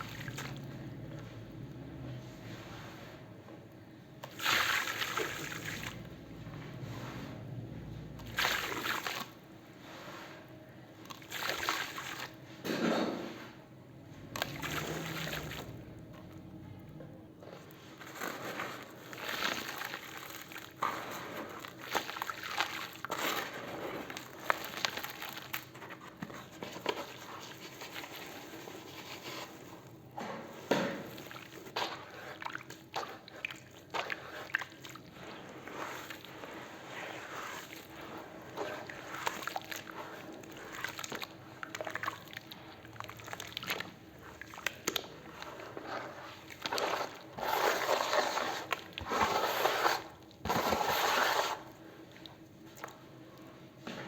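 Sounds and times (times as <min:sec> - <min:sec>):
wet cement sloshing: 0:00.0 - 0:03.4, 0:04.2 - 0:13.4, 0:14.0 - 0:16.8, 0:17.4 - 0:54.0.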